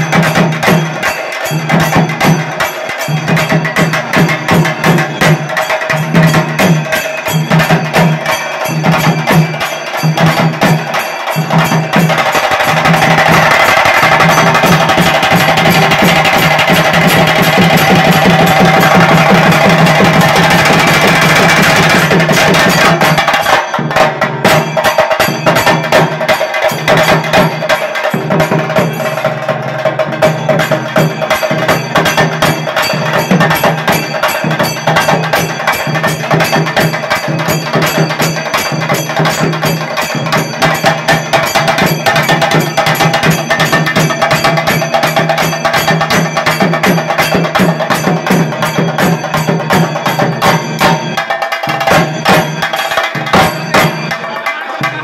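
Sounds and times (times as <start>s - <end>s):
drummers playing fast rhythm: 0.0s - 55.0s.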